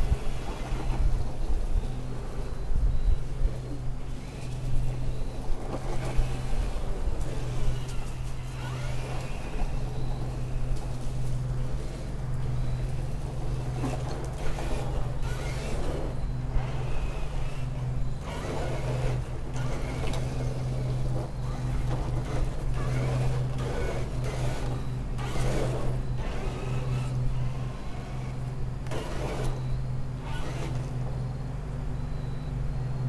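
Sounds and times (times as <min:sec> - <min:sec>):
steady low hum: 0:00.0 - 0:33.0
electric motor whirring: 0:04.0 - 0:11.2, 0:11.8 - 0:31.2.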